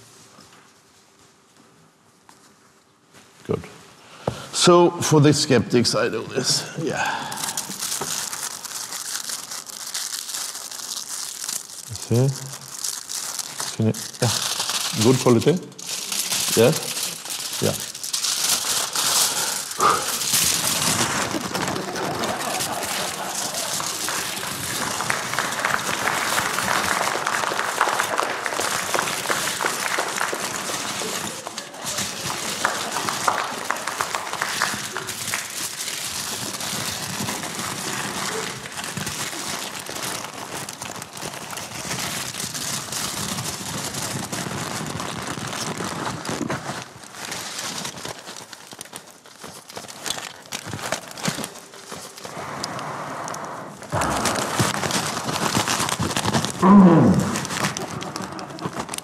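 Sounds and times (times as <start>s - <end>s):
plastic bag crinkling: 5.9s - 59.0s.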